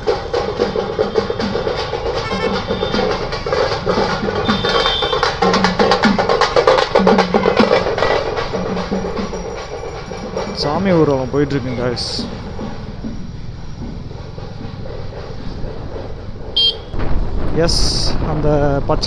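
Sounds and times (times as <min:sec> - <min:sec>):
wood-block-like strikes: 0:00.0 - 0:17.4
drums and percussion: 0:00.0 - 0:19.0.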